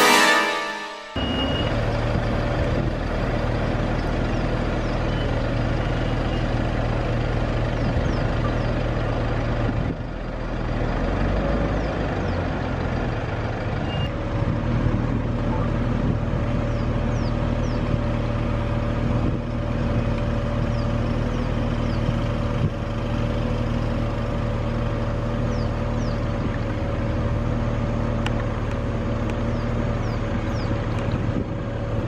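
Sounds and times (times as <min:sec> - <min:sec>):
vehicle engine idling: 0:01.2 - 0:32.0.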